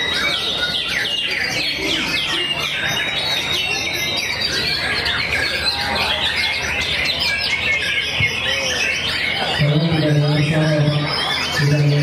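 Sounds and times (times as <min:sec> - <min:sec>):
other songbirds singing: 0:00.0 - 0:12.0
songbird whistling and chirping: 0:00.0 - 0:12.0.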